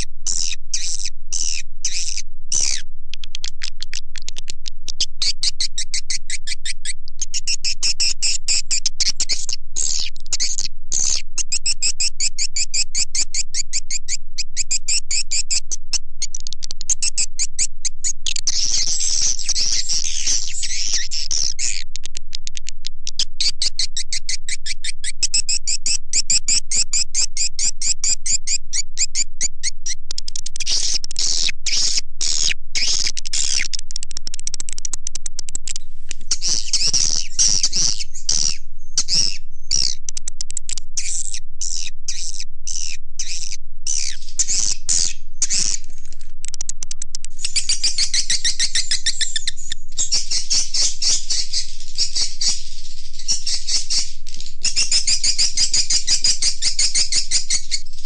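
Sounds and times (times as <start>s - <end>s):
swiftlets twittering and chirping: 0.0s - 2.9s, 3.5s - 21.8s, 27.2s - 58.0s.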